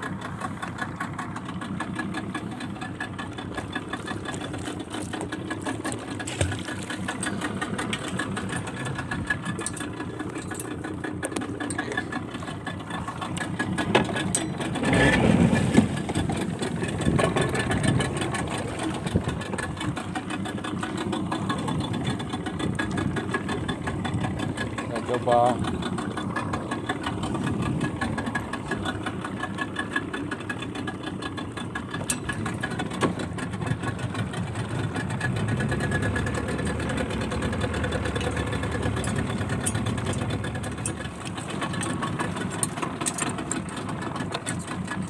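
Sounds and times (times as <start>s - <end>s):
boat engine chugging: 0.0s - 45.0s.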